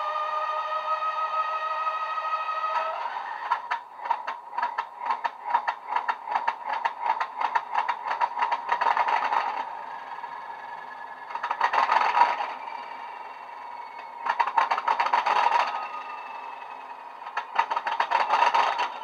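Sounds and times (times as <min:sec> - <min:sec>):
diesel engine sound from small speaker: 0:00.0 - 0:19.0.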